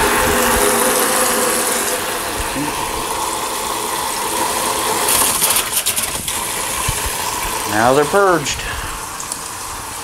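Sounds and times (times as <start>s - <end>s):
faucet water running into pail: 0.0s - 10.0s.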